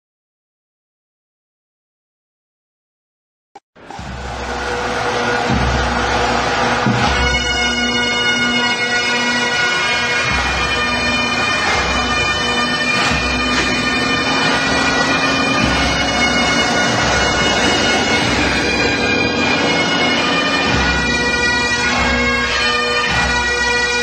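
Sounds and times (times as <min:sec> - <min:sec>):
bagpipe music: 0:03.9 - 0:24.0.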